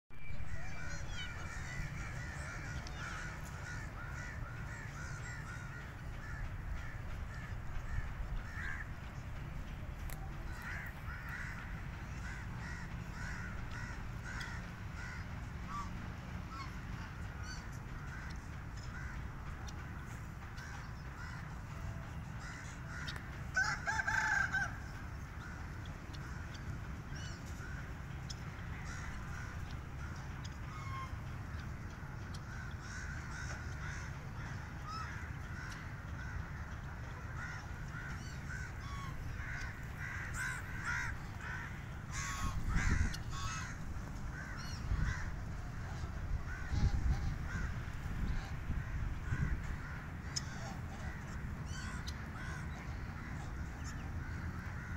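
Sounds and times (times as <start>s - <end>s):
steady low rumble: 0.1s - 54.9s
birds calling: 0.2s - 54.9s.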